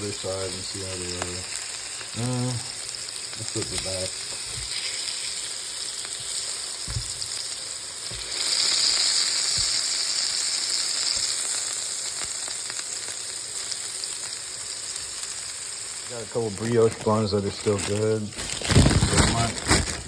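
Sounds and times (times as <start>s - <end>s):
burger patties sizzling: 0.0s - 20.0s.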